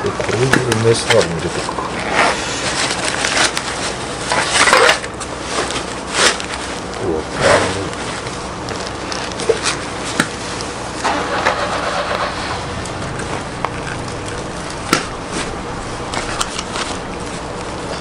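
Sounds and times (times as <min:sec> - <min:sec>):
low background rumble: 0:00.0 - 0:18.0
handling rustle: 0:00.2 - 0:18.0.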